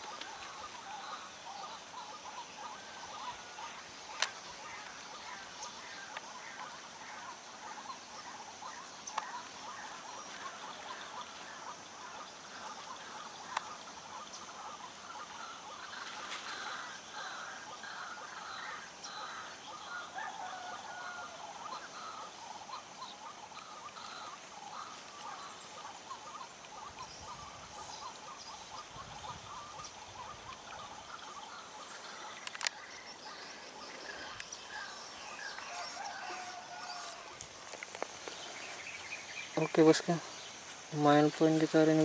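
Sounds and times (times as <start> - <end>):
birds chirping: 0.0 - 42.0
high insect hum: 0.0 - 42.0.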